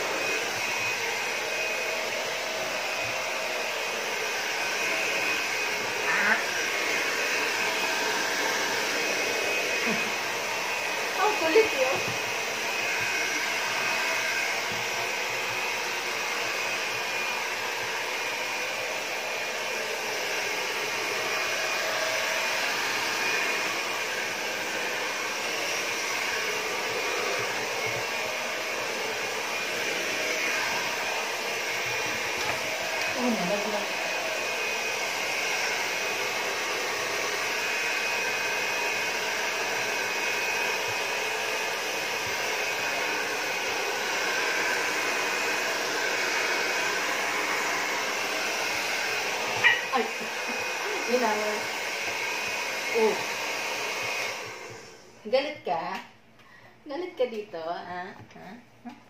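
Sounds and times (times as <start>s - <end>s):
hair dryer blowing: 0.0s - 56.1s, 56.9s - 58.6s.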